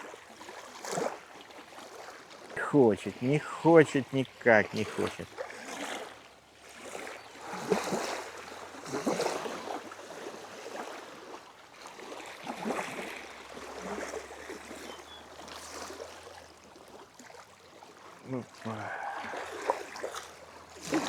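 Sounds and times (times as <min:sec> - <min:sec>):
small waves lapping at shore: 0:00.0 - 0:21.0.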